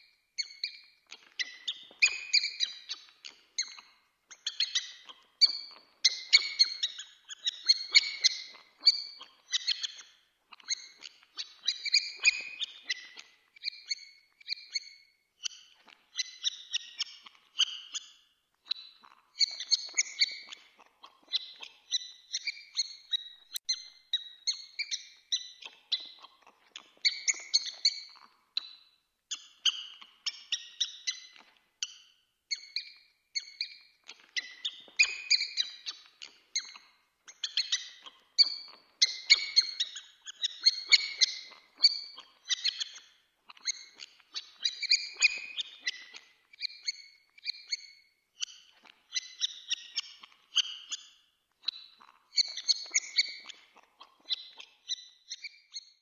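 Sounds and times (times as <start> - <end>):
mouse squeaking: 0.4 - 18.1, 18.7 - 56.0.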